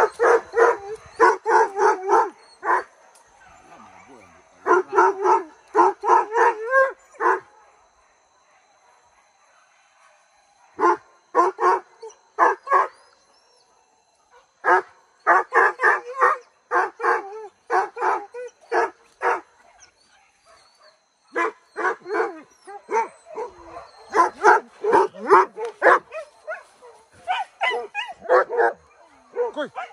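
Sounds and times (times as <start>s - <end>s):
hunting dogs barking: 0.0s - 29.9s.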